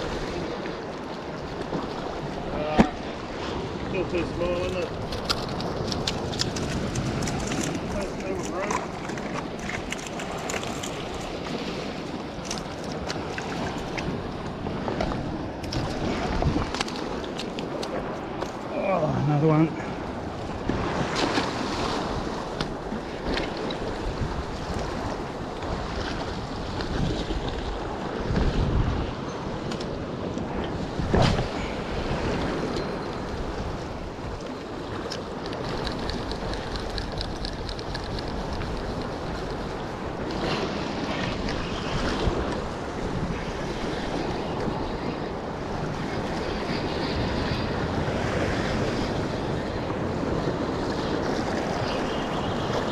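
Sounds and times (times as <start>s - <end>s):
surf washing against rocks: 0.0s - 52.9s
wind buffeting microphone: 0.0s - 52.9s.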